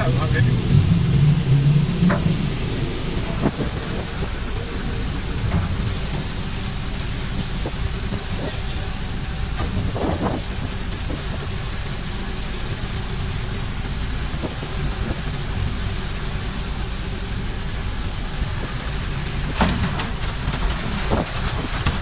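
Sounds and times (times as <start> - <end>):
boat engine rumble: 0.0 - 22.0
sea noise: 0.0 - 22.0
wind: 0.0 - 22.0.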